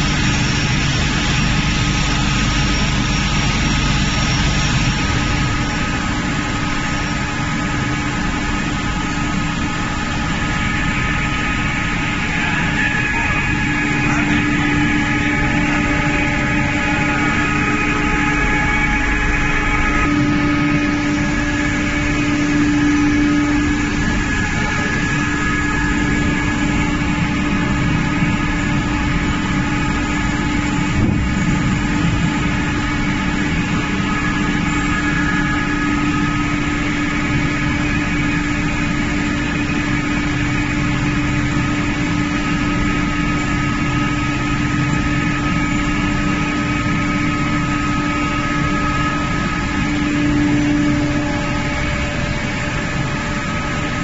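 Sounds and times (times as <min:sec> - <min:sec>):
pellet mill machine drone: 0:00.0 - 0:54.0.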